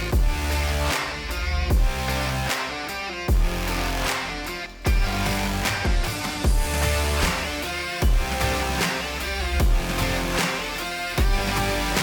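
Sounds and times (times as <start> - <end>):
electric guitar: 0.0 - 12.0
heavy bass line: 0.0 - 12.0.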